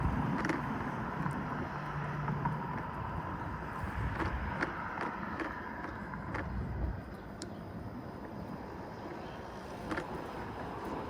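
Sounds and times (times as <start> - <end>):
tyre and wind rumble: 0.0 - 11.0.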